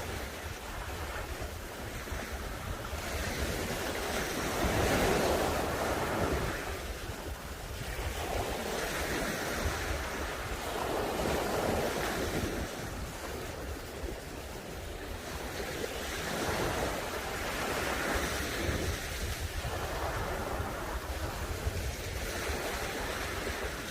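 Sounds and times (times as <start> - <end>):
sea waves breaking on beach: 0.0 - 23.9
wind buffeting microphone: 0.0 - 23.9.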